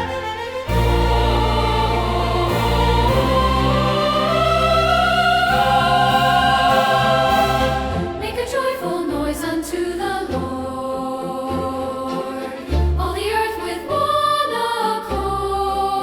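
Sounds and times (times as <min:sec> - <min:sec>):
choir with orchestra: 0:00.0 - 0:16.0.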